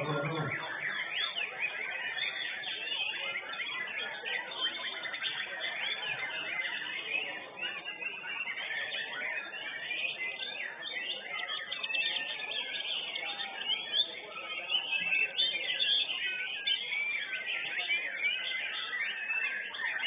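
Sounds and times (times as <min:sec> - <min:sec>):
songbirds whistling and chirping: 0:00.0 - 0:20.0.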